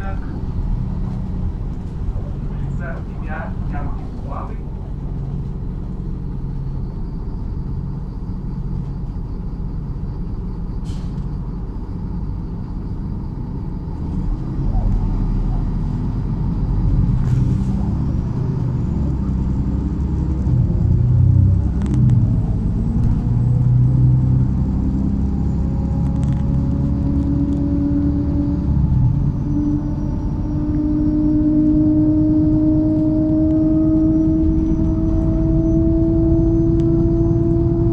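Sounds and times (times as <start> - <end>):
bus engine and road rumble: 0.0 - 37.9
rising drivetrain whine: 0.0 - 37.9.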